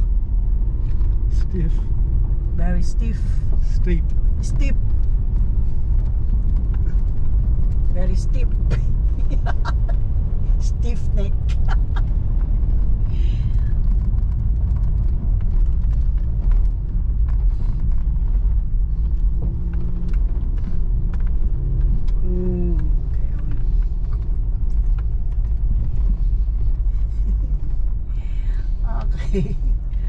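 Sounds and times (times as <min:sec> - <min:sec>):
car engine rumbling under load: 0:00.0 - 0:30.0.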